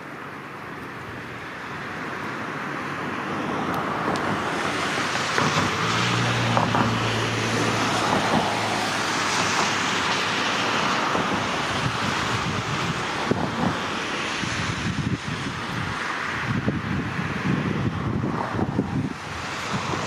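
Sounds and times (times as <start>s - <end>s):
passing vehicle engine hum: 0.0s - 20.0s
road traffic noise: 0.0s - 20.0s.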